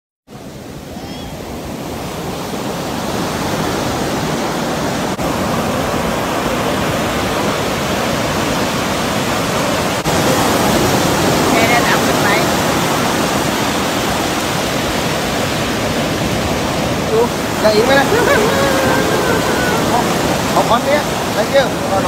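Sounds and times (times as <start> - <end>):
surf breaking on beach: 0.3 - 22.0.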